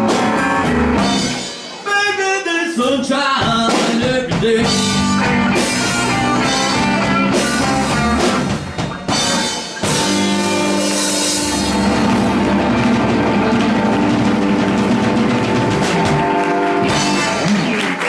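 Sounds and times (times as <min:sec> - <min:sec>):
blues band playing: 0:00.0 - 0:18.0.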